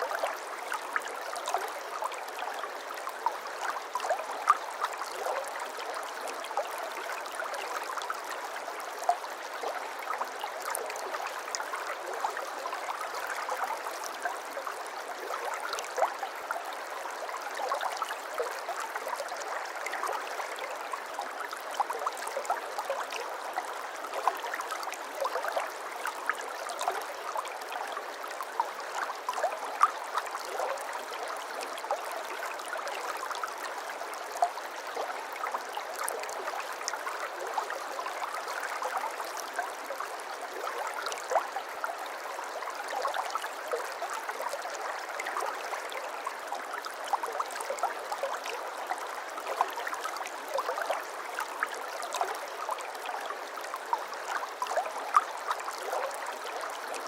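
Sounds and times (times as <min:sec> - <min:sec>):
stream trickling and gurgling: 0:00.0 - 0:57.0.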